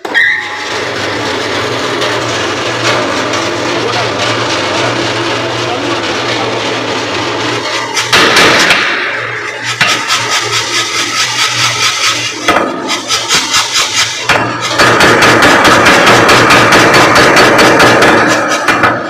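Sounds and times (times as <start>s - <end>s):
motor humming: 0.0s - 16.4s
power hammer blows on steel: 0.0s - 19.0s.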